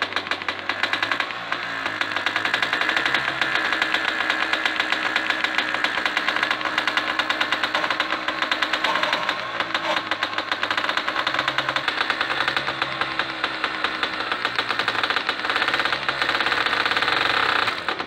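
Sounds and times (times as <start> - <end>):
two-stroke engine running: 0.0 - 18.0.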